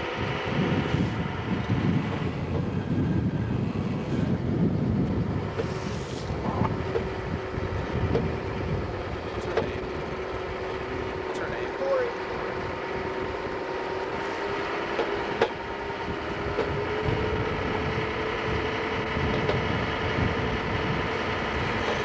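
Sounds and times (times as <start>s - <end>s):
boat engine drone: 0.0s - 22.0s
wind buffeting microphone: 0.0s - 22.0s.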